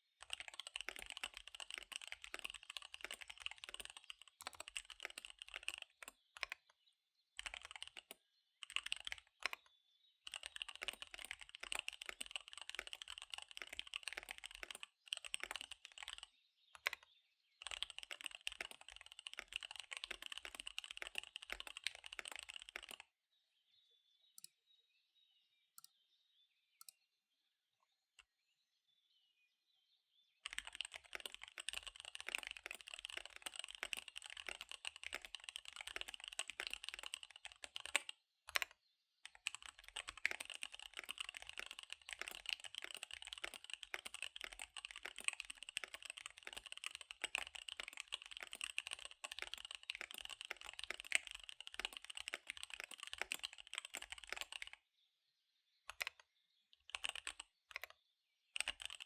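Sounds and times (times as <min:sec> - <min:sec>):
fast keyboard typing: 0:00.0 - 0:06.7, 0:07.3 - 0:09.6, 0:10.2 - 0:23.1, 0:30.4 - 0:54.8, 0:55.9 - 0:59.0.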